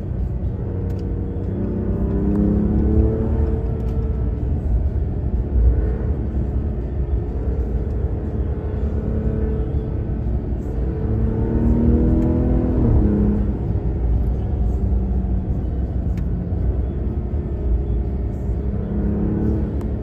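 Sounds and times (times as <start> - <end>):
pickup engine accelerating: 0.0 - 20.0.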